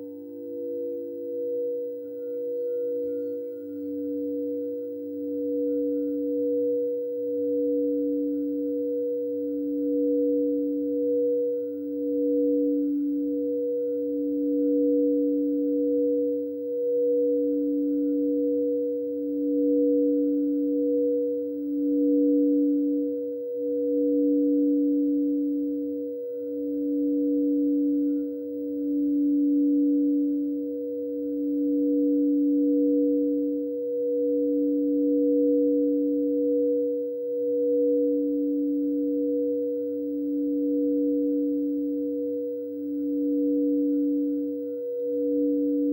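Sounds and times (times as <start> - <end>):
singing bowls ringing: 0.0 - 45.9.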